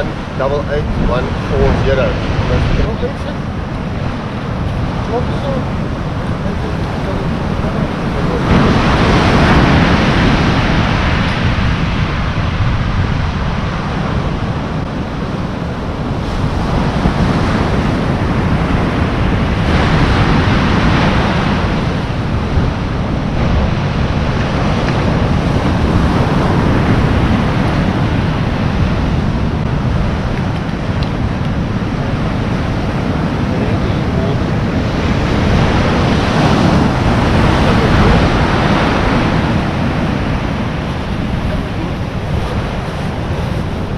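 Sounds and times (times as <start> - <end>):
ocean surf breaking on shore: 0.0 - 43.9
wind rumbling on microphone: 0.0 - 43.9.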